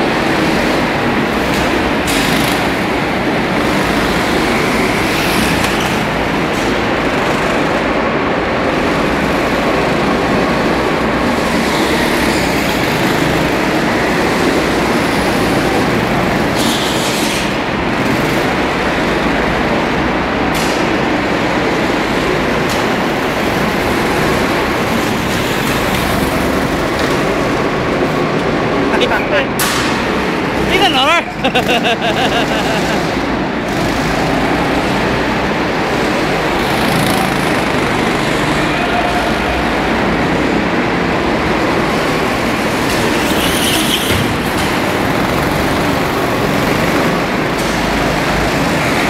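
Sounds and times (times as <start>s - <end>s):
go-kart engines droning: 0.0s - 49.0s.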